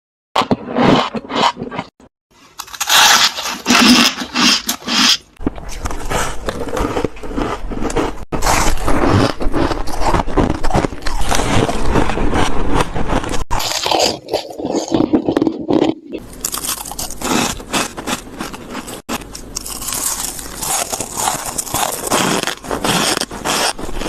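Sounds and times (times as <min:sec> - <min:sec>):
frost being chewed: 0:00.4 - 0:24.0.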